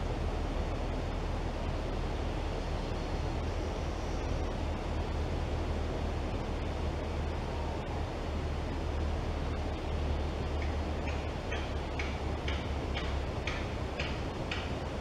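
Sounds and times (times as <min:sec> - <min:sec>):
low outdoor rumble with hiss: 0:00.0 - 0:15.0.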